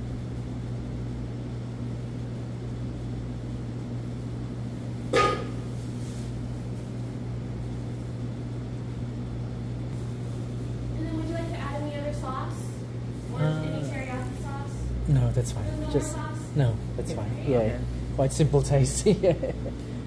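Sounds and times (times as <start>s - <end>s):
kitchen machinery humming: 0.0s - 20.0s.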